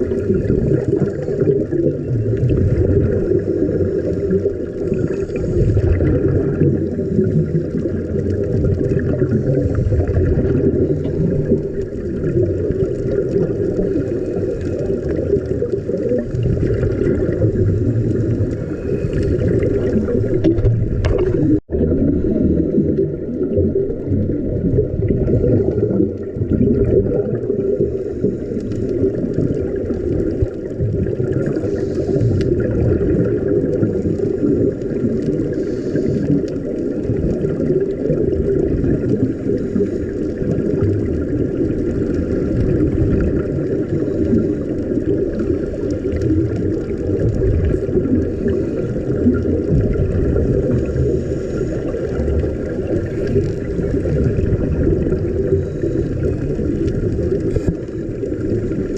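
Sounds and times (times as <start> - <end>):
underwater low rumble: 0.0 - 58.9.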